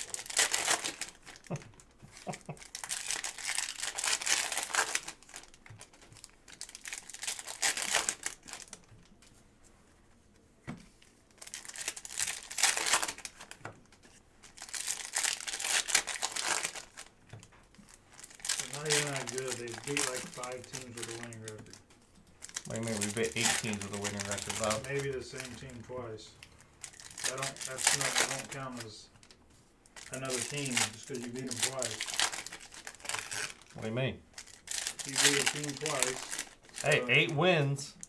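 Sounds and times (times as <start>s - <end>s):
foil wrappers tearing and crinkling: 0.0s - 8.9s, 11.3s - 21.8s, 22.4s - 26.2s, 26.8s - 38.0s.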